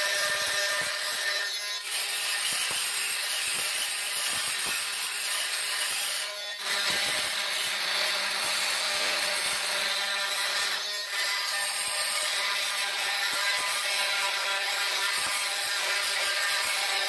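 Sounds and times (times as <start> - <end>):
oscillating multi-tool grinding grout: 0.0 - 17.0.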